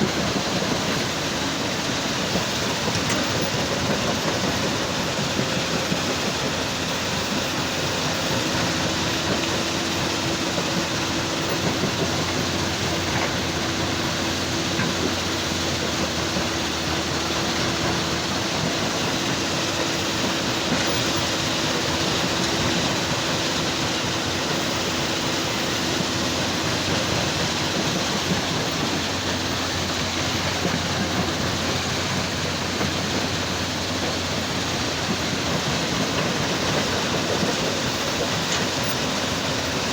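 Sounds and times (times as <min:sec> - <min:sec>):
heavy machinery rumbling: 0:00.0 - 0:39.9.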